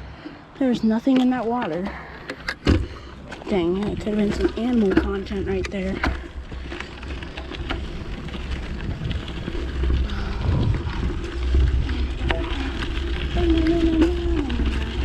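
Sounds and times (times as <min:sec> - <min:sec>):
bike clicks and rattles: 0:00.0 - 0:15.0
steady humming tone: 0:02.3 - 0:15.0
wind buffeting microphone: 0:02.8 - 0:15.0.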